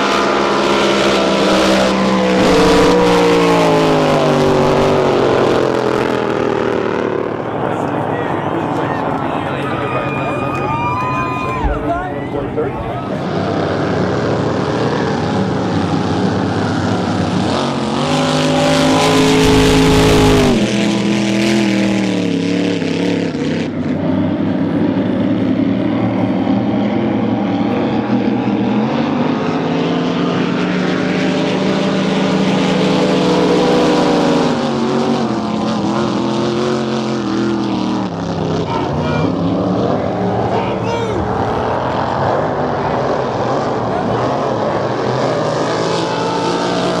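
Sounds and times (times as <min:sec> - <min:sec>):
racing boat engines: 0:00.0 - 0:47.0.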